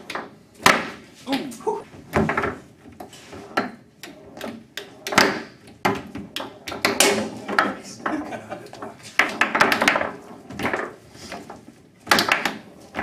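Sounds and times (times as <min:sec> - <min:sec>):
foosball ball and figures clacking: 0:00.0 - 0:01.2, 0:01.9 - 0:13.0.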